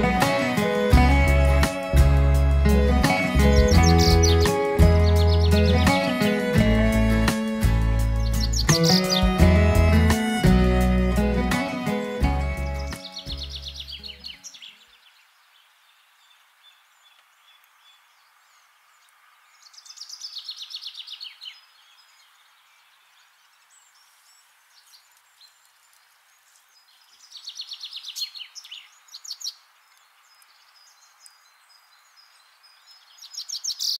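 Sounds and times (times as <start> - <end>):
bird chirping: 0.0 - 34.0
faint steady hiss: 0.0 - 34.0.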